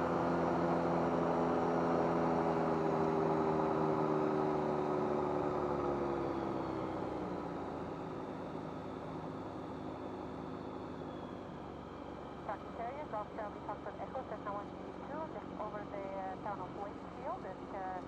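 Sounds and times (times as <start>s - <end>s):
light aircraft engine drone: 0.0s - 18.0s.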